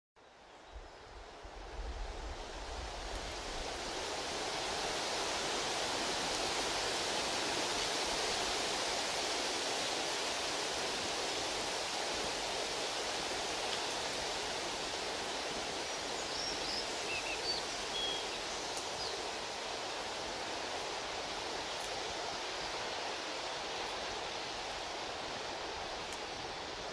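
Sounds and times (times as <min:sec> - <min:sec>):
rushing water: 0:01.0 - 0:26.9.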